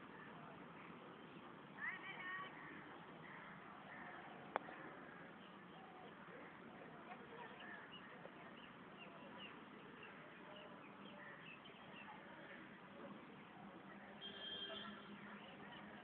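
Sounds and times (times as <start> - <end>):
outdoor background hiss: 0.0 - 16.0
small birds chirping: 0.1 - 16.0.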